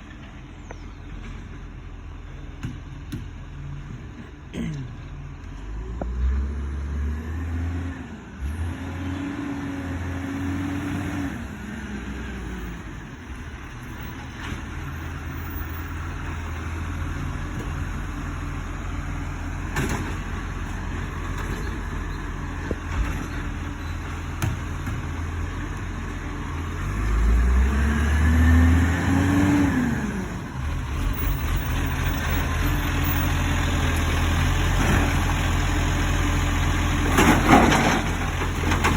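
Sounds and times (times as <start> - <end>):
garbage truck engine revving: 5.5 - 38.9.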